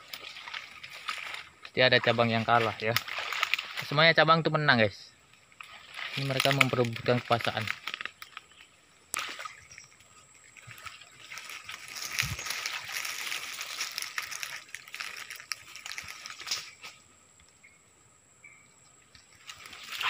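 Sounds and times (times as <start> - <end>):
palm fronds rustling: 0.0 - 17.2, 19.0 - 20.0.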